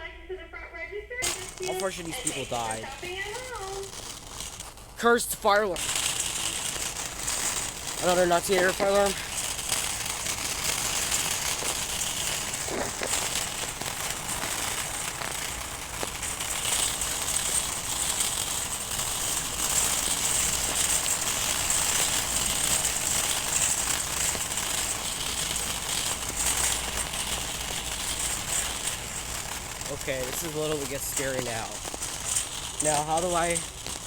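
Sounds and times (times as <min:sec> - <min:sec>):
crackling hiss: 0:00.3 - 0:34.0.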